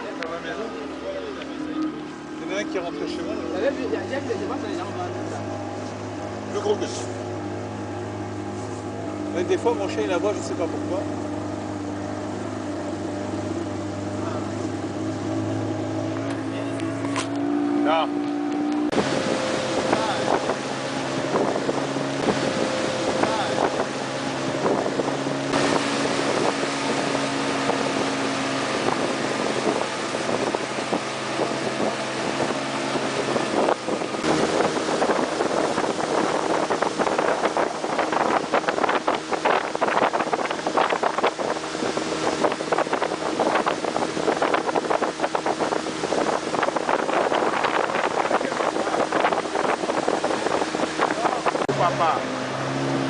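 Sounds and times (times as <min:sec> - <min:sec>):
motorboat engine running: 0:00.0 - 0:53.0
rushing wind and water: 0:00.0 - 0:53.0.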